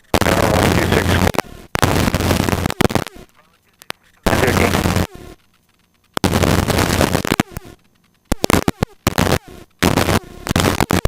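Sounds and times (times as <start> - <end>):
helicopter intercom switching: 0.0 - 11.0.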